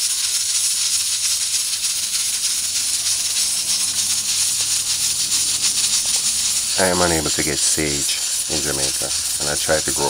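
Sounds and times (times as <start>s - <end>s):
pressure cooker regulator rattling hiss: 0.0s - 10.0s.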